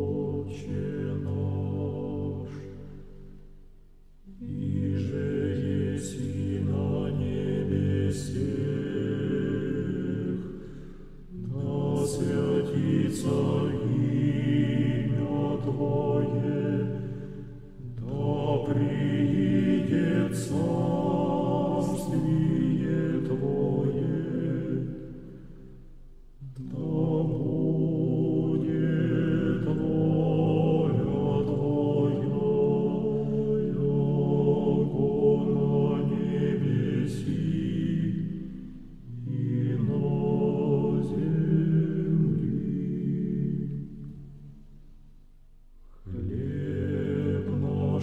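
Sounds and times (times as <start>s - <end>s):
slow chant-like singing: 0.0s - 48.0s.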